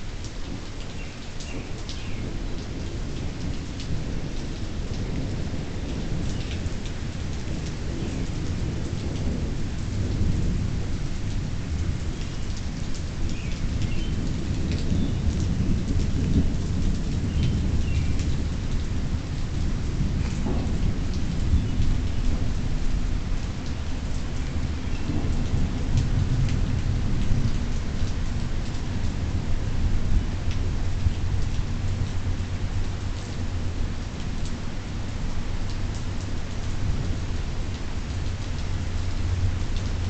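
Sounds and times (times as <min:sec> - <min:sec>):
steady rain: 0:00.0 - 0:40.0
raindrop ticks: 0:00.1 - 0:40.0
thunder rumbling: 0:01.5 - 0:34.0.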